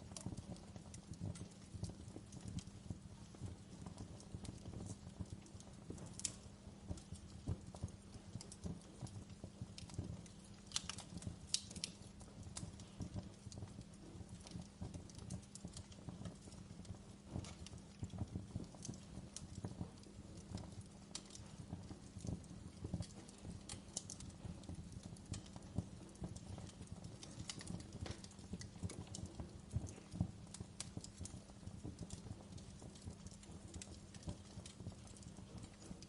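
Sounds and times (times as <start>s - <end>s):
sharp pops of fire: 0.0s - 36.0s
wood fire crackling: 0.0s - 36.0s.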